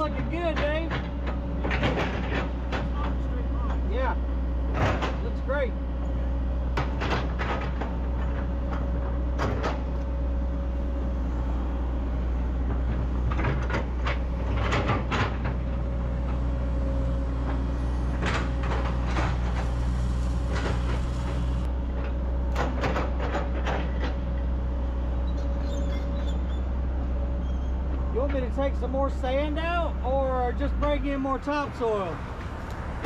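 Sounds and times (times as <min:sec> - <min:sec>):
clunks and knocks of boulders: 0:00.0 - 0:29.5
excavator diesel engine running: 0:00.0 - 0:33.0.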